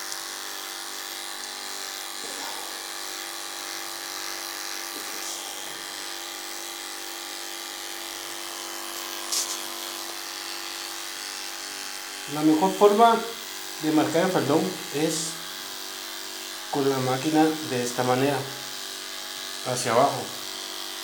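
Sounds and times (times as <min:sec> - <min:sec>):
electric clipper humming: 0:00.0 - 0:21.0.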